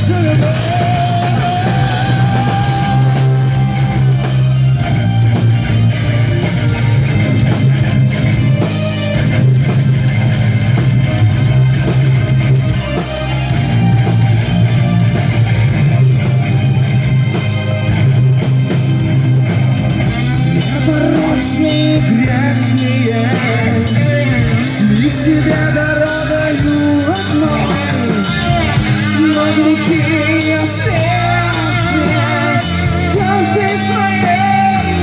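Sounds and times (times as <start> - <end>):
bass guitar: 0.0 - 35.0
drum kit: 0.0 - 35.0
electric guitars: 0.0 - 35.0.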